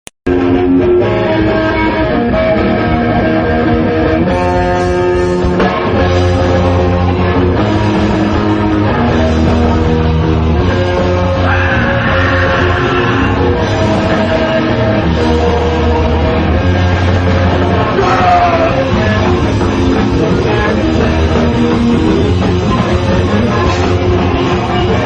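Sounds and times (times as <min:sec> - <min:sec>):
heavy metal band playing live: 0:00.3 - 0:25.0.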